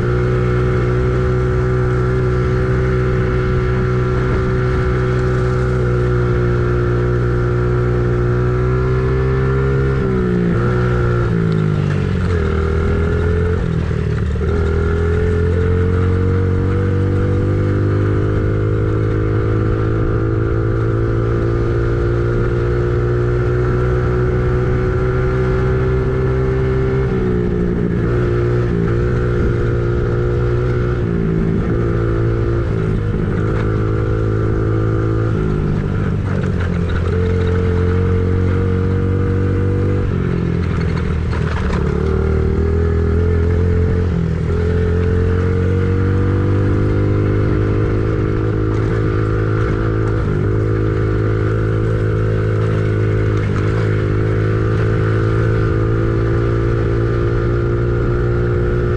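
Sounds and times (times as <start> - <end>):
engine running under varying load: 0.0 - 58.9.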